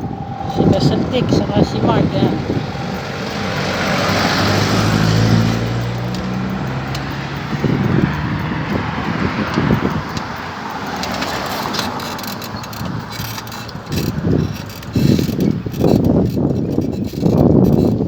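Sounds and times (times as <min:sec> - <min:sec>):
motor vehicle passing: 0:00.0 - 0:18.0
road and wind noise: 0:00.0 - 0:18.0.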